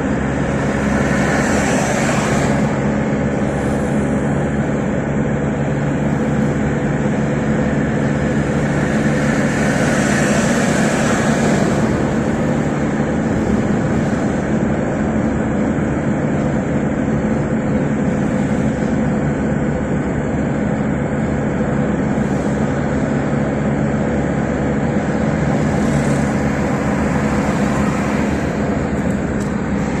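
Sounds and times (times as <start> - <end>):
engine hum with road noise: 0.0 - 30.0.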